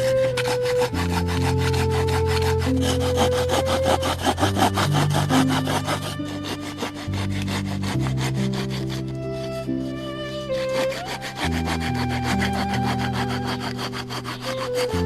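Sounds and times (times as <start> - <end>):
saw cutting wood: 0.0 - 15.0
soft background music: 0.0 - 15.0.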